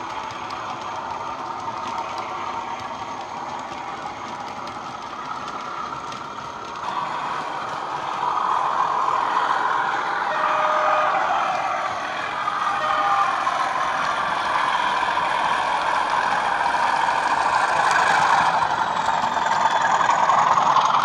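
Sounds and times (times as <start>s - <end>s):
model wagon wheels clicking: 0.0s - 9.9s, 11.2s - 21.0s.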